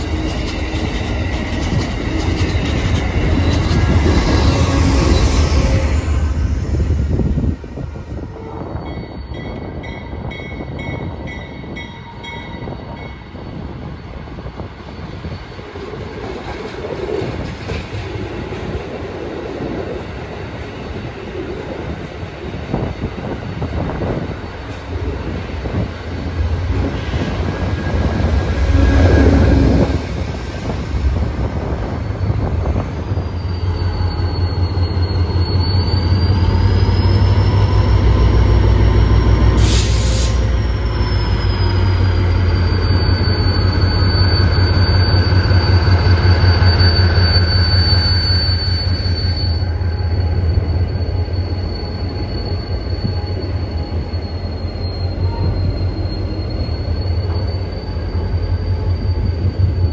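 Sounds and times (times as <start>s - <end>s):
high wavering wheel squeal: 0.0s - 16.2s, 22.7s - 59.9s
passing train cars: 0.0s - 59.9s
train cars rumbling: 0.0s - 59.9s.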